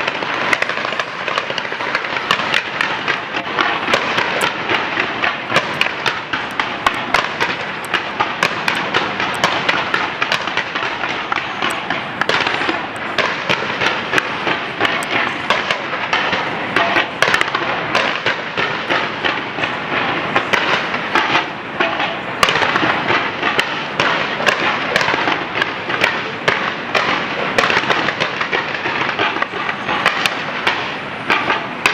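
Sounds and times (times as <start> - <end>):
fireworks bangs and crackling: 0.0 - 31.9
rumbling hiss: 0.0 - 31.9.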